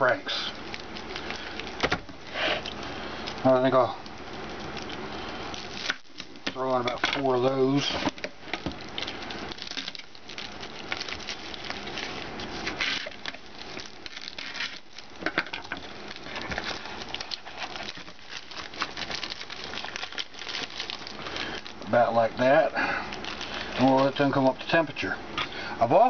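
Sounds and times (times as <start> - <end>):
plastic wrapping crinkling: 0.0 - 26.0.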